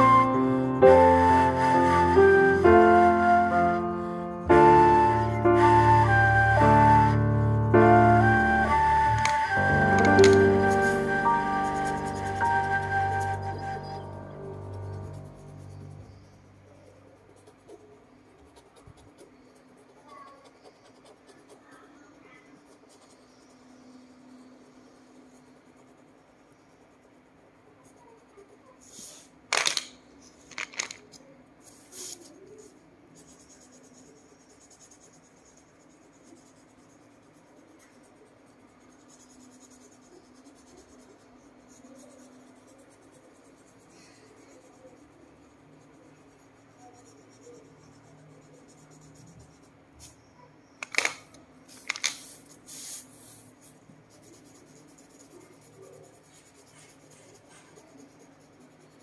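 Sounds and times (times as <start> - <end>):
crayon strokes on paper: 0.0 - 29.4, 31.6 - 51.1, 51.7 - 59.0
wax crayons clicking: 7.9 - 14.1, 14.9 - 27.0, 27.8 - 50.2, 50.8 - 59.0.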